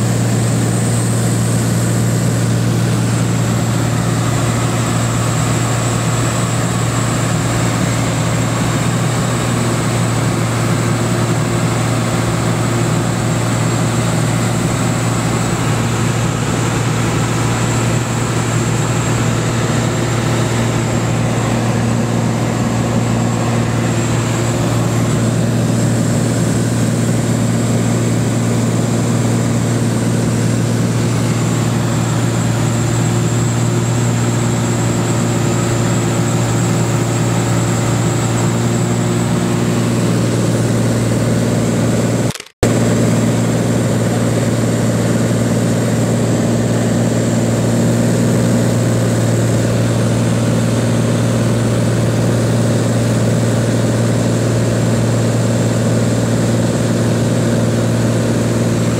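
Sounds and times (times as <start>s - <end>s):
propeller aircraft engine droning: 0.0s - 58.9s.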